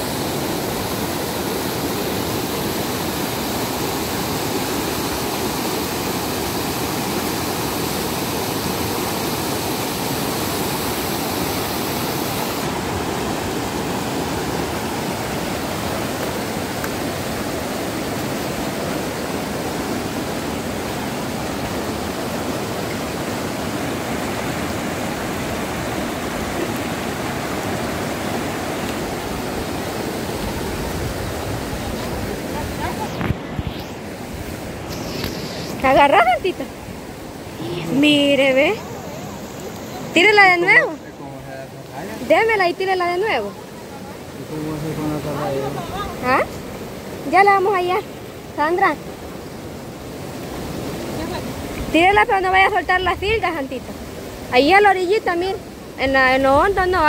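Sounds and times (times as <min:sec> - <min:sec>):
river rushing through rapids: 0:00.0 - 0:57.0.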